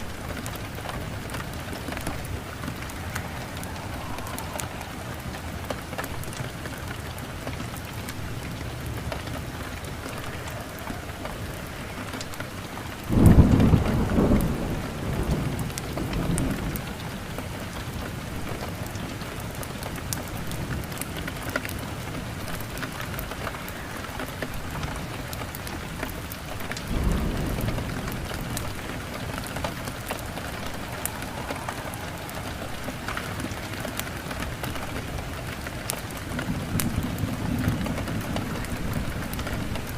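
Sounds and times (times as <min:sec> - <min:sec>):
roll of thunder: 0:00.0 - 0:08.9, 0:09.5 - 0:20.8, 0:26.6 - 0:39.9
thunderclap rumbling: 0:00.0 - 0:21.0, 0:22.2 - 0:39.9
steady rain falling: 0:00.0 - 0:39.9.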